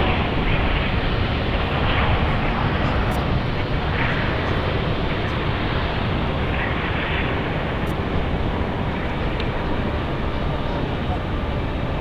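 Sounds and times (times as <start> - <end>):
jet engines roaring: 0.0 - 10.5.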